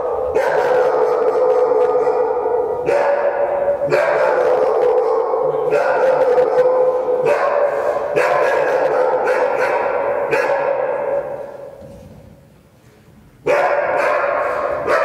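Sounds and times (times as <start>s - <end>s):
dog barking: 0.0s - 11.8s, 13.4s - 15.0s.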